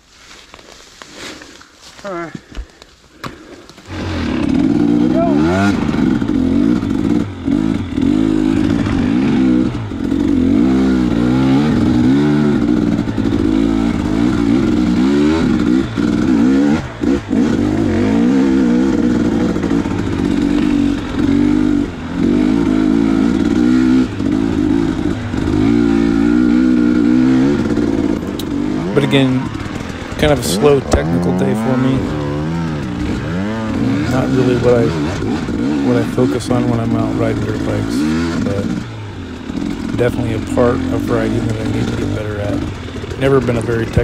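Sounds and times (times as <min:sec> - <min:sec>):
two-stroke engine revving: 0:03.8 - 0:44.0.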